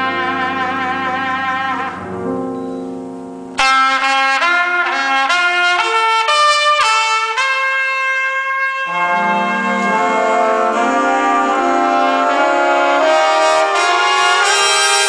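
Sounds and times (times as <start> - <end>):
solo trumpet holding a note: 0.0 - 2.2, 3.6 - 15.0
brass section chords: 0.0 - 15.0.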